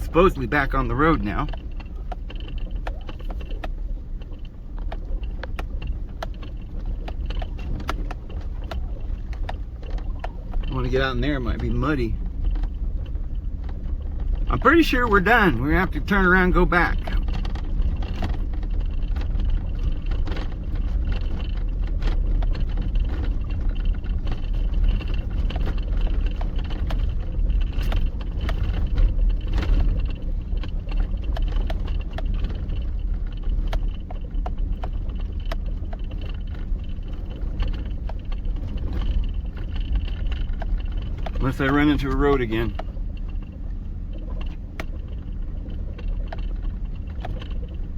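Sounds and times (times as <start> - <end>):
engine and tyre rumble: 0.0 - 47.9
rattles and knocks over bumps: 0.0 - 47.9.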